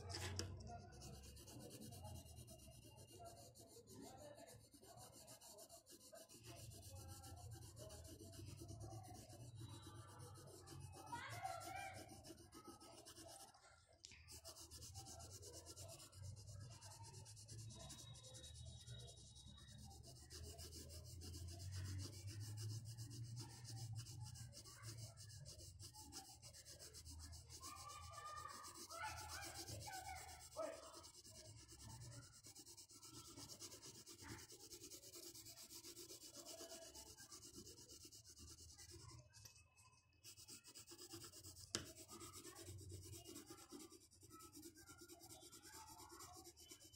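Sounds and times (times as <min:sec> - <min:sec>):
pencil scratching on paper: 0:00.0 - 0:46.9.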